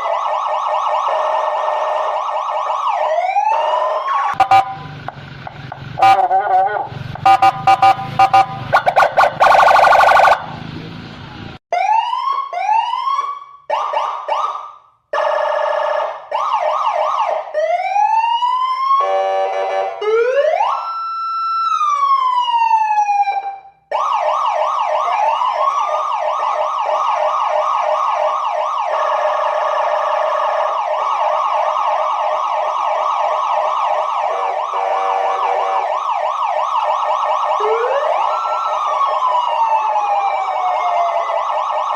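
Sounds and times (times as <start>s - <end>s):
police siren cycling tones: 0.0s - 5.2s, 5.8s - 10.6s, 11.7s - 41.9s.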